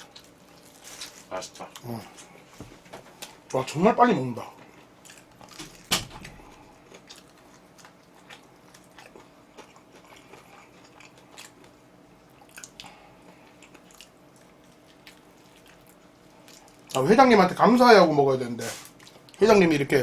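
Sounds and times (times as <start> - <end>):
soft chewing: 0.0 - 3.6, 4.3 - 17.1, 18.6 - 19.5.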